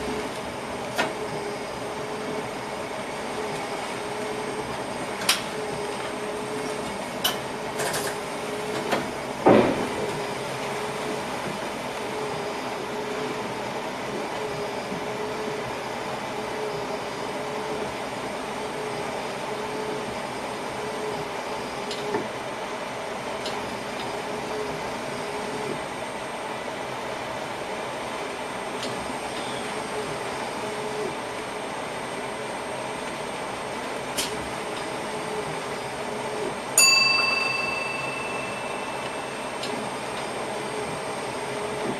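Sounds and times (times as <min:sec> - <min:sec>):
train running noise with hum: 0:00.0 - 0:41.9.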